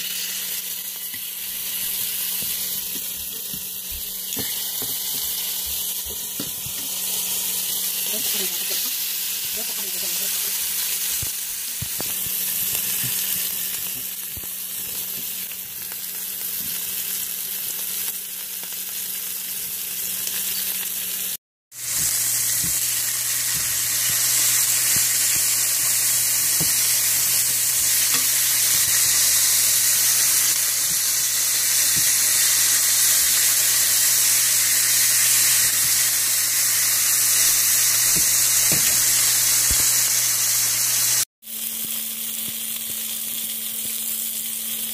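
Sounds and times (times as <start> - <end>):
steaks sizzling in frying pan: 0.0 - 44.9.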